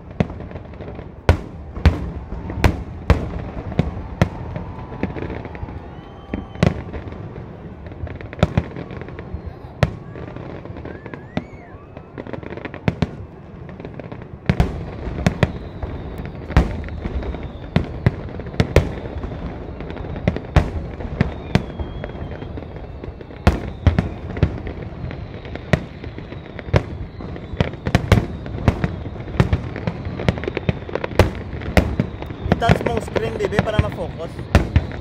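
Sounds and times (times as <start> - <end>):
fireworks crackling rumble: 0.0 - 35.0.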